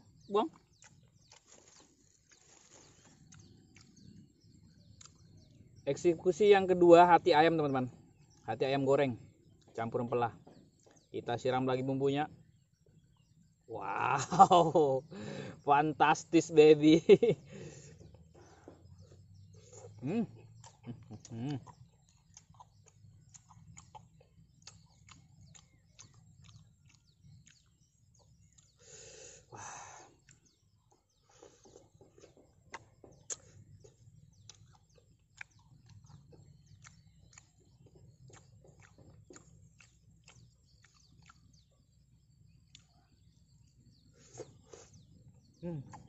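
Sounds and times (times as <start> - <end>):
small bird chirps: 0.0 - 46.0.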